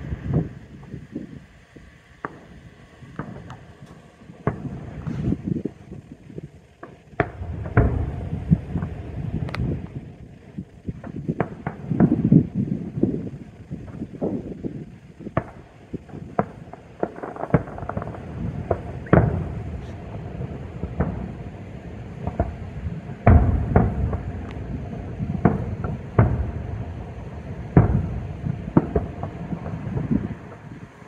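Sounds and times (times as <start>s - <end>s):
low rumble of booms: 0.0s - 1.5s, 2.2s - 31.0s
fireworks bangs and cracks: 0.0s - 31.0s.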